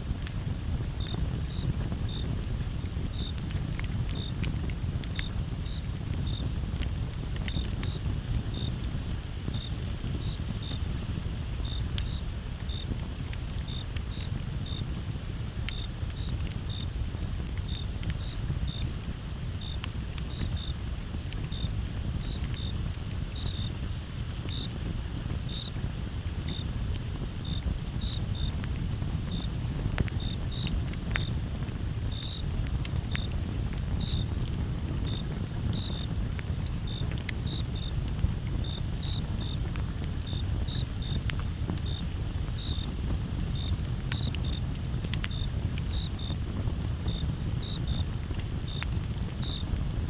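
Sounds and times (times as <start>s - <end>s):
campfire crackling: 0.0s - 50.0s
crickets chirping: 0.0s - 50.0s.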